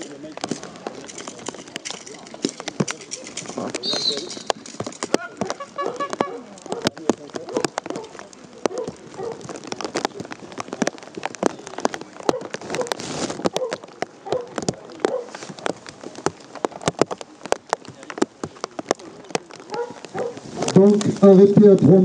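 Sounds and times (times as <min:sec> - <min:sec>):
rain falling: 0:00.0 - 0:22.0
raindrops tapping: 0:00.0 - 0:22.0.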